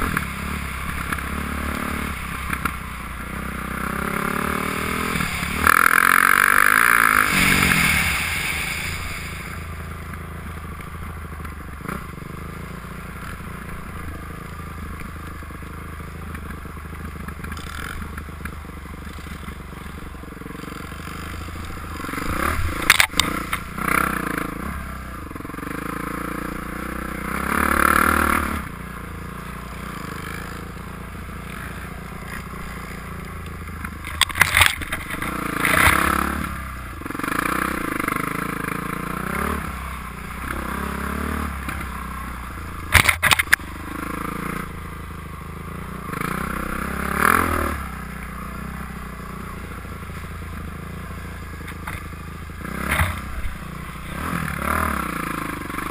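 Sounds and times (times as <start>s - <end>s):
dirt bike engine revving: 0.0s - 10.6s, 17.4s - 55.9s.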